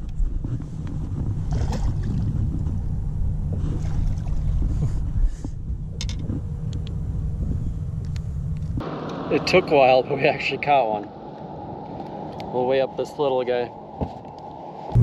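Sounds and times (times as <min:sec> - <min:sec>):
wind buffeting microphone: 0:00.0 - 0:08.9, 0:10.6 - 0:15.0.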